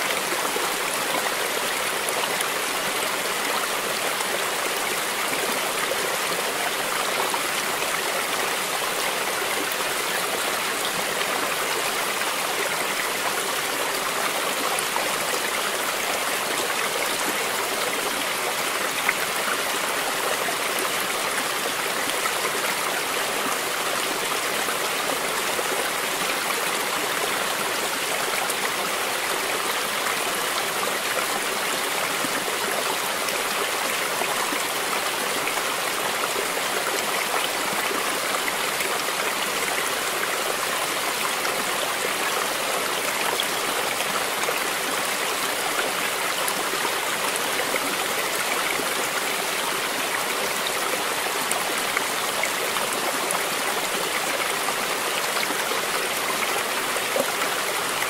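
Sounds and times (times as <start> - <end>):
stream flowing over cascades: 0.0 - 58.0.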